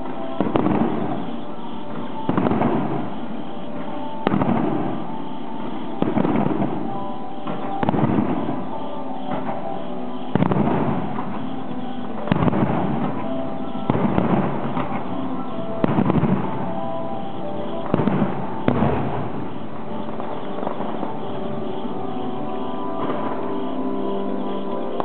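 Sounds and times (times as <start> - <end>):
firework shells bursting: 0.0 - 24.6
crackling rumble: 0.0 - 25.0.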